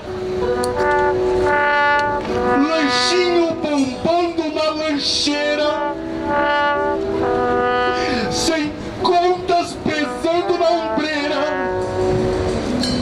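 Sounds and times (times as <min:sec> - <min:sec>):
saxophones and brass chords: 0:00.0 - 0:13.0.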